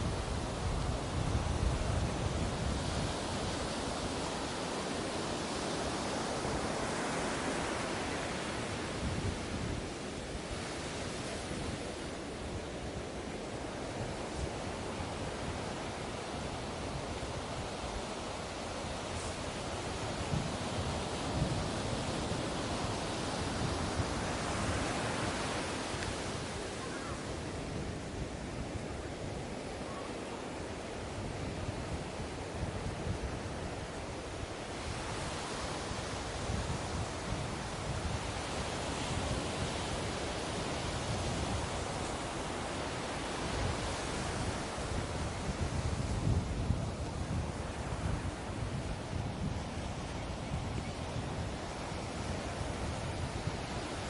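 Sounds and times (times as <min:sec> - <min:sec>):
sea waves washing onto beach: 0:00.0 - 0:54.0.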